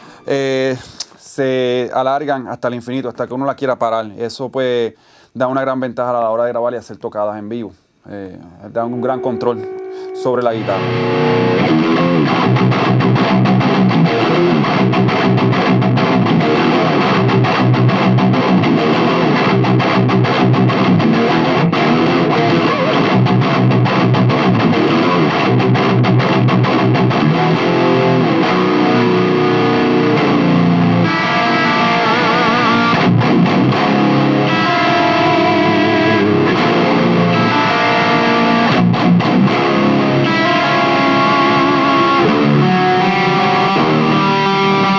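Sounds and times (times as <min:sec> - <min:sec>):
distorted electric guitar riffing: 0:08.7 - 0:44.9.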